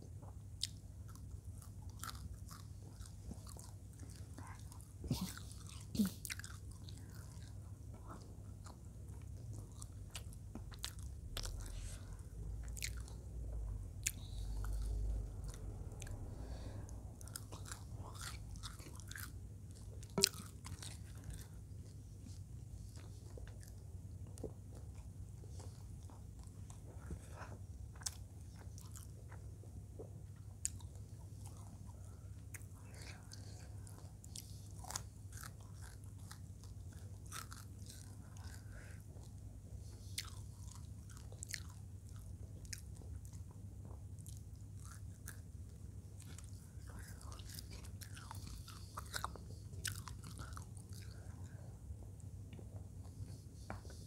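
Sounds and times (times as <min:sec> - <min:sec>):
close-up chewing and biting: 0:00.0 - 0:54.0.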